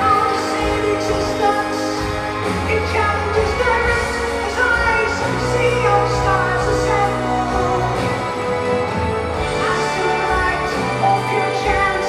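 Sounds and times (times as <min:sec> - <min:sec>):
bass notes: 0:00.0 - 0:12.0
high lead vocal singing: 0:00.0 - 0:12.0.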